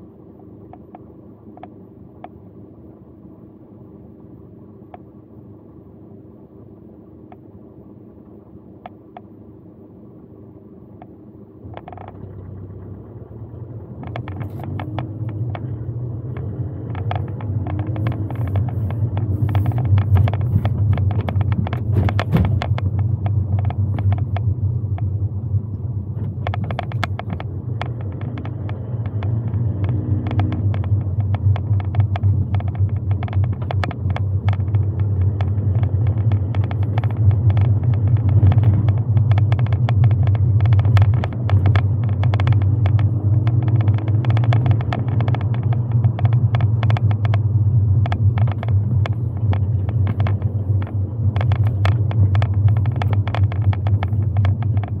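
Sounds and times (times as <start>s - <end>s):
car engine and road rumble: 0.0s - 55.0s
sharp clicks and ticks: 0.7s - 2.4s, 7.3s - 7.5s, 11.0s - 55.0s.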